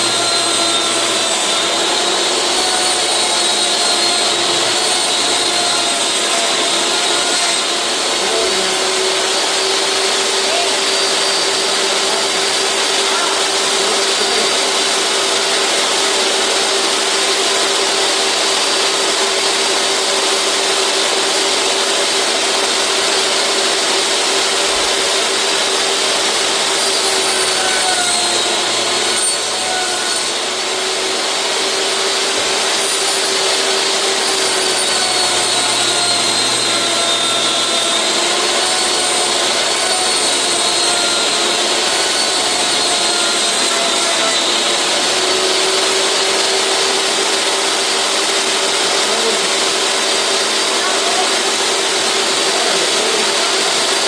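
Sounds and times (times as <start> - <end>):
table saw cutting plastic: 0.0 - 54.0.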